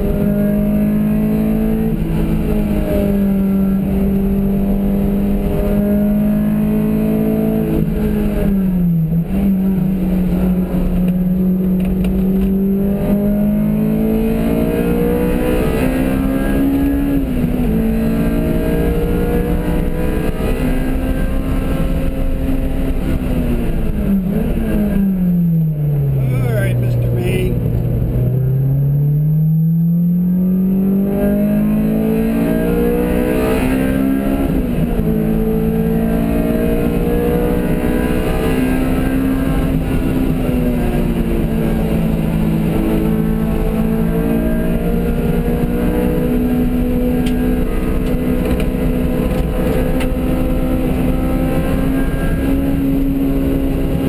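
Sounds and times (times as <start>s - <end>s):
car engine running hard: 0.0s - 54.0s
road and wind noise: 0.0s - 54.0s.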